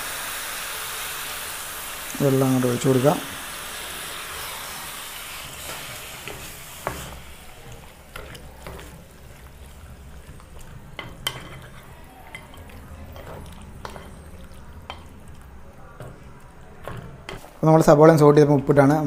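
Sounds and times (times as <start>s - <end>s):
sizzling hiss: 0.0s - 16.2s.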